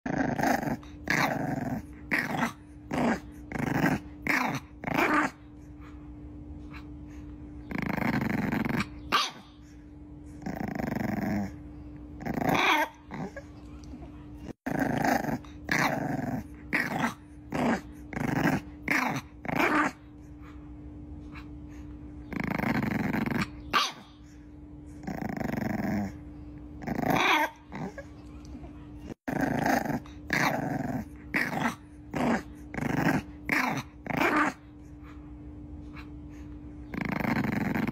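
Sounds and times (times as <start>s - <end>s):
puppy growling: 0.0s - 37.9s.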